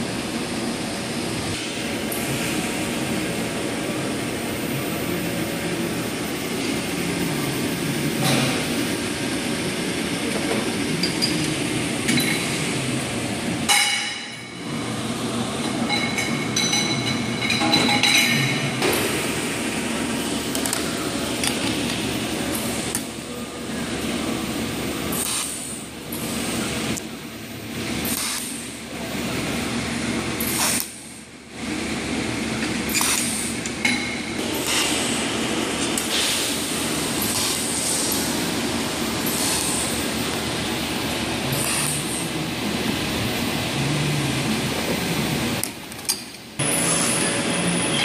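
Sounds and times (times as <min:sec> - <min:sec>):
metalworking shop machinery din: 0:00.0 - 0:48.0.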